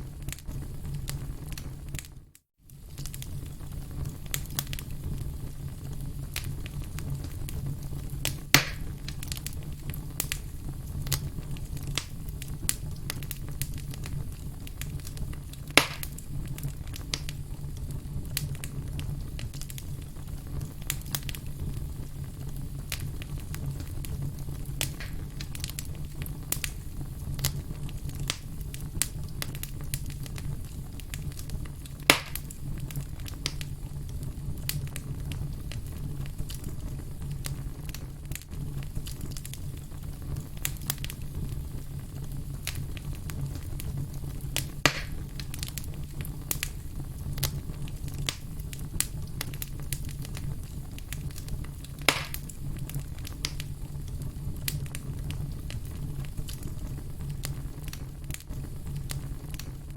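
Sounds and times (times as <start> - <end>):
campfire crackling: 0.0 - 59.9
fire pops: 0.0 - 59.9.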